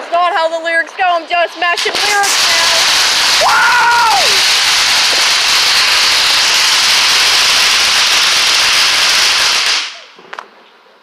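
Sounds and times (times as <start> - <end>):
firework fountain hissing: 0.1 - 10.2.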